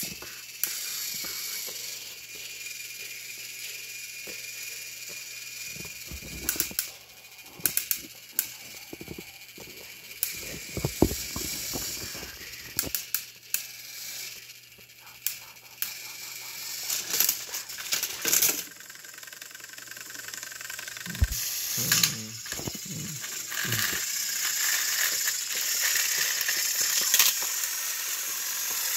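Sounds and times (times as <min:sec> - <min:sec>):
toy train motors whirring: 0:00.0 - 0:28.9.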